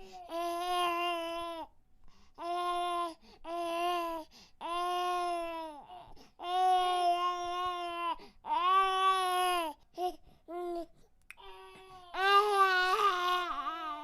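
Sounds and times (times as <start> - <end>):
baby crying: 0.0 - 1.7, 2.4 - 14.0.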